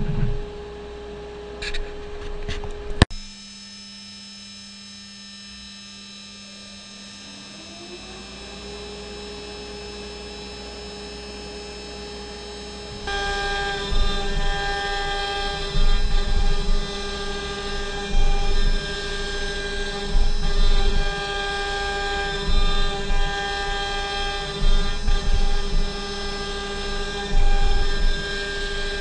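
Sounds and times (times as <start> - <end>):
router spindle humming: 0.0 - 29.0.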